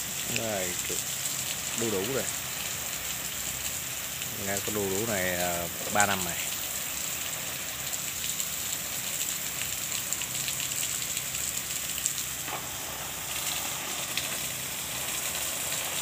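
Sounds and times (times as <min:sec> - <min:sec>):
garden hose spraying water: 0:00.0 - 0:16.0.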